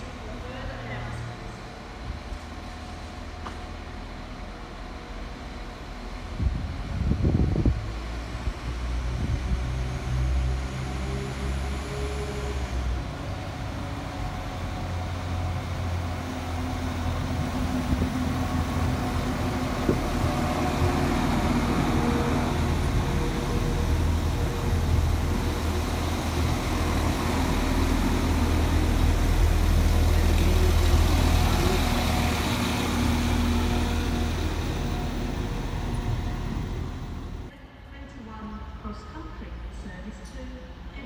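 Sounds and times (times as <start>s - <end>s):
diesel train engines droning: 0.0s - 37.5s.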